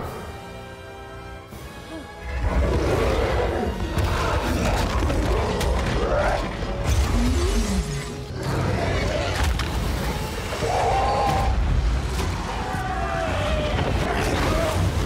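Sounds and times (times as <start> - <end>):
dramatic orchestral music: 0.0 - 15.0.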